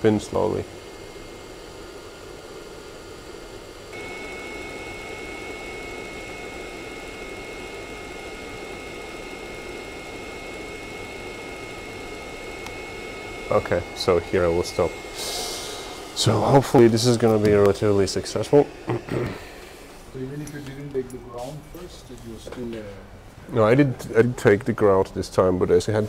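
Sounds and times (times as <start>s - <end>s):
machine hum and hiss: 0.0s - 26.0s
faint high-pitched whine: 3.8s - 26.0s.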